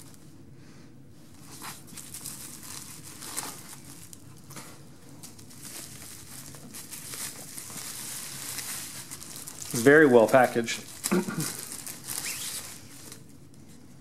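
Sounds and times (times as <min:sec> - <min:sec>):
bubble wrap crinkling: 0:00.0 - 0:00.3, 0:01.3 - 0:13.9.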